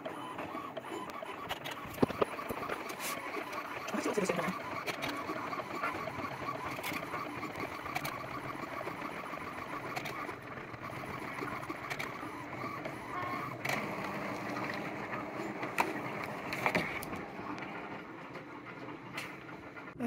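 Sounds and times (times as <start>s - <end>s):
printer clicks: 0.0s - 17.8s
printer carriage running: 0.0s - 20.0s.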